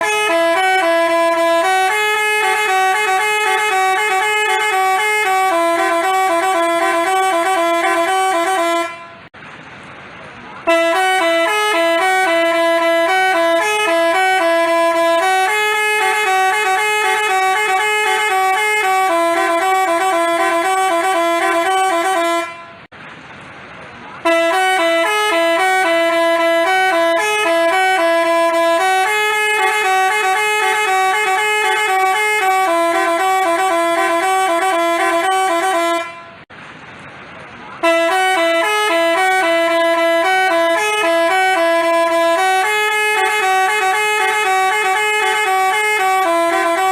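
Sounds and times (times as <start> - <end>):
musical bus horn melody: 0.0 - 9.4, 10.6 - 22.9, 24.2 - 36.5, 37.8 - 46.9.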